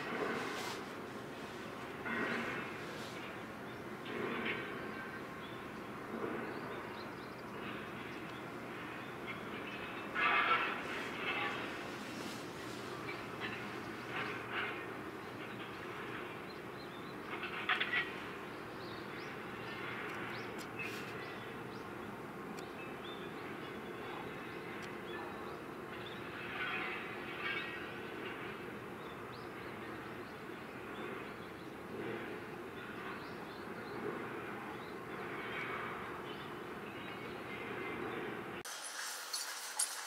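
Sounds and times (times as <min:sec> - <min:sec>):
distant harbour machinery rumble: 0:00.0 - 0:38.6.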